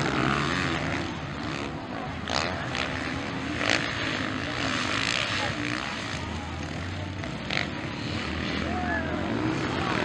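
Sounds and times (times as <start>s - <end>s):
motocross bike engines revving: 0.0s - 10.0s.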